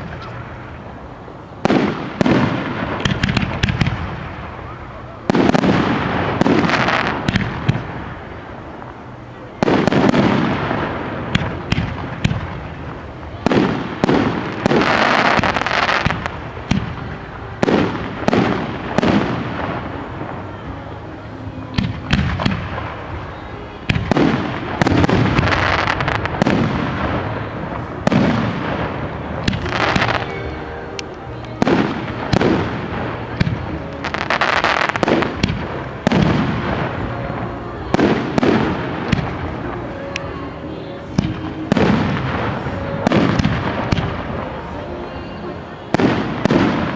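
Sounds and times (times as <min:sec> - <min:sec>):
fireworks bursting with crackle: 0:00.0 - 0:46.9.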